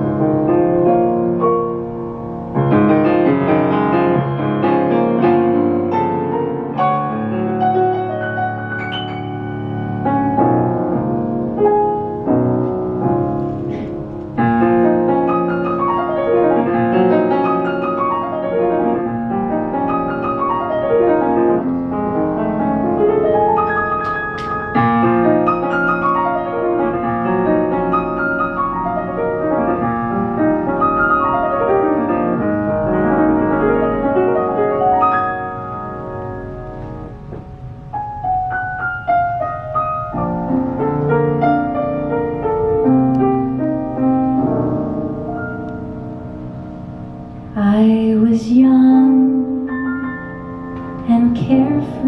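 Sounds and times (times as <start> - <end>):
solo jazz piano: 0.0 - 52.0.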